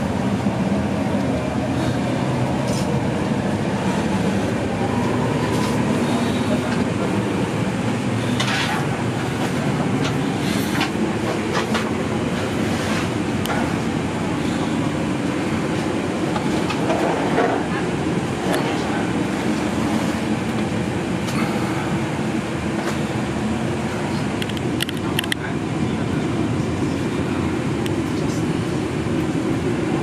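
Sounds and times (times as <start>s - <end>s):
aircraft cabin hum: 0.0s - 30.0s.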